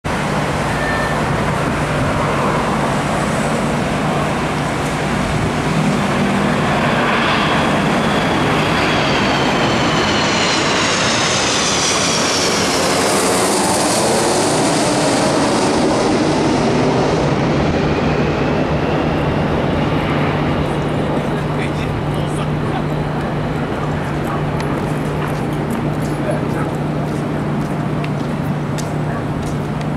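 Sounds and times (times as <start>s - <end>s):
jet airliner rumble overhead: 0.0s - 29.9s
jet engine whine: 0.0s - 29.9s.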